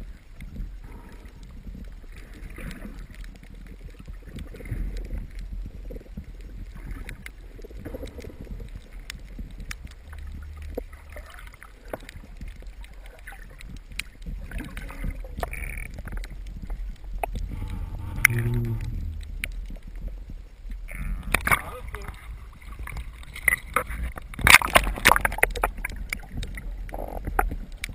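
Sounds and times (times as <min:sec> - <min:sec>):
sharp clicks and crackles: 0:00.0 - 0:27.9
underwater rumble: 0:00.0 - 0:27.9.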